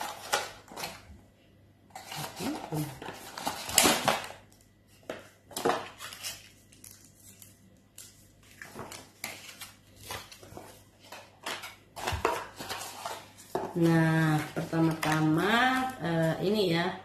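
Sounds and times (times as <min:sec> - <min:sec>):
cardboard and paper rustling: 0:00.0 - 0:01.1, 0:01.9 - 0:16.5.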